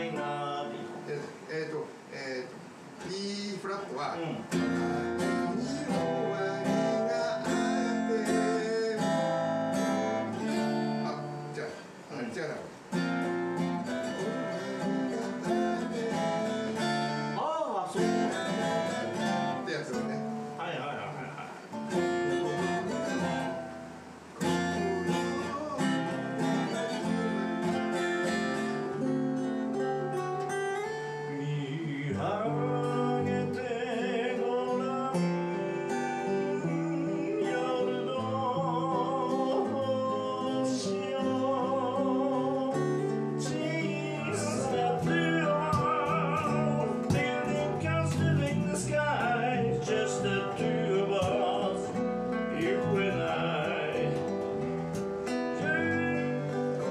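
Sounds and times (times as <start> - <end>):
man singing with vibrato: 0.0 - 12.1, 12.7 - 20.6, 21.5 - 56.9
acoustic guitars strummed: 0.0 - 56.9.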